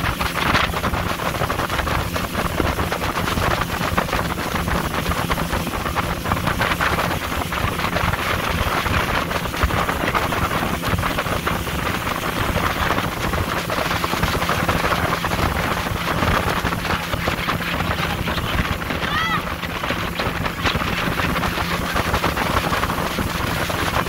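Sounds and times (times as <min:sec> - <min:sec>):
low boat engine hum: 0:00.0 - 0:24.0
water against boat hull: 0:00.0 - 0:24.0
wind buffeting microphone: 0:00.0 - 0:24.0.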